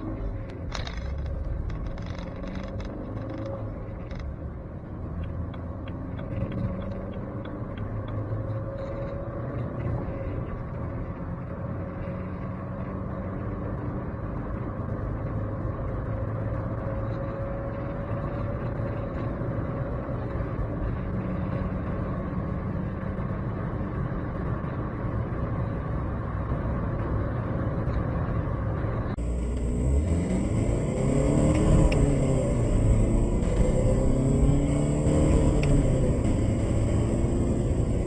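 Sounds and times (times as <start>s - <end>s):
diesel engine accelerating: 0.0s - 38.0s.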